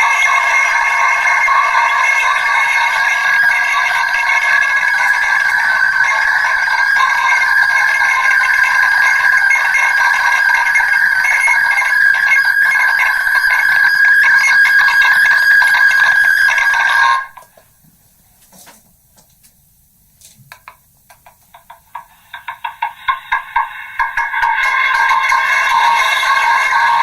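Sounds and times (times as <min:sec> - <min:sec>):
distorted megaphone drone: 0:00.0 - 0:17.6, 0:21.9 - 0:27.0
pulsing buzzing megaphone playback: 0:00.0 - 0:17.6, 0:22.0 - 0:27.0.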